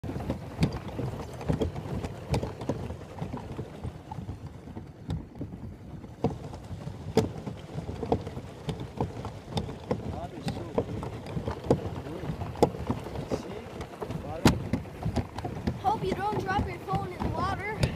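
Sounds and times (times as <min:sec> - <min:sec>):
water splashing against boat hull: 0:00.0 - 0:17.9.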